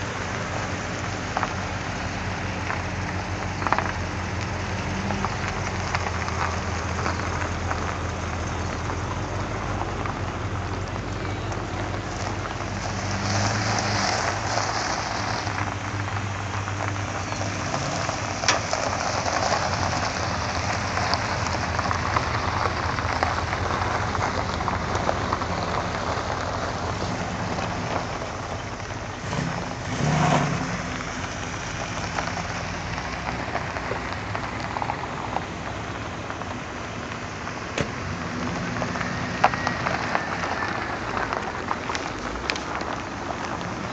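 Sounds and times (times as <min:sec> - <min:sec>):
car engines at low revs: 0:00.0 - 0:43.9
tyres rolling on gravel: 0:00.0 - 0:43.9.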